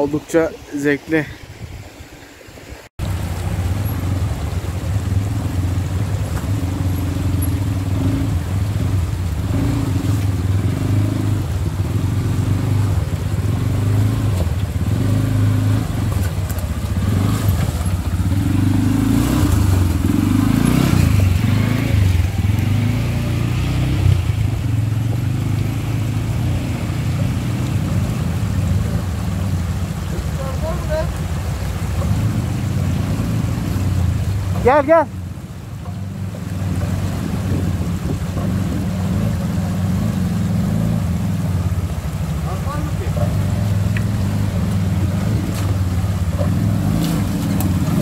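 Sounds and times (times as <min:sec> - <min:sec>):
atv engine running: 0:03.0 - 0:48.0.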